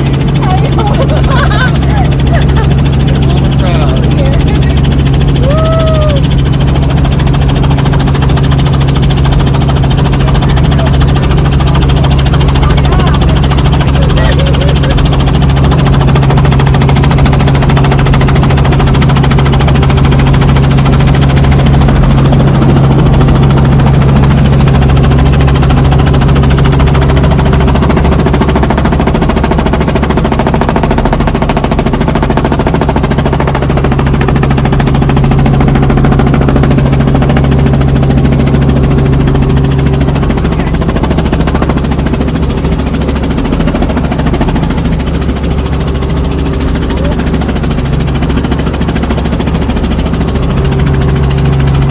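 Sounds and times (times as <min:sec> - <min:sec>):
helicopter engine and rotor: 0:00.0 - 0:51.9.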